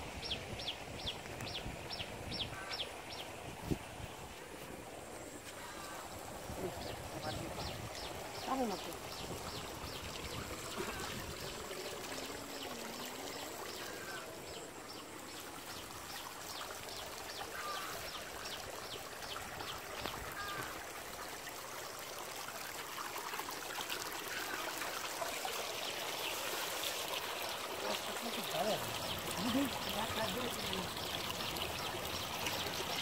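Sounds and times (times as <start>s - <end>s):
water trickling and pouring: 0.0s - 33.0s.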